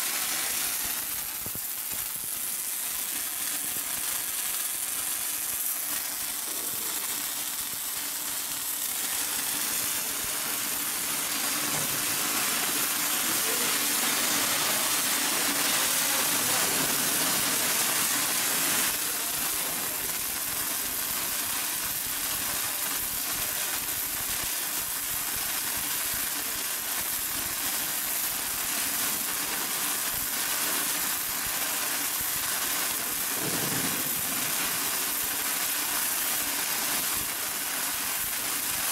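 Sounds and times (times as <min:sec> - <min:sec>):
welding arc hissing and crackling: 0:00.0 - 0:38.9.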